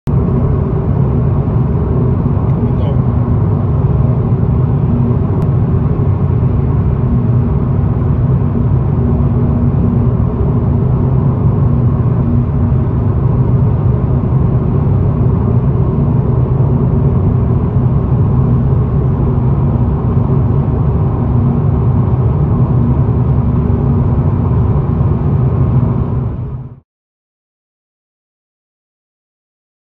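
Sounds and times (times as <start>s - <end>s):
car road noise inside cabin: 0.1s - 26.8s.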